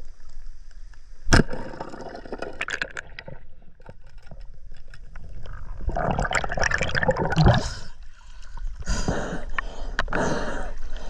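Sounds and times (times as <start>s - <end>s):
muffled underwater river: 0.0s - 11.0s.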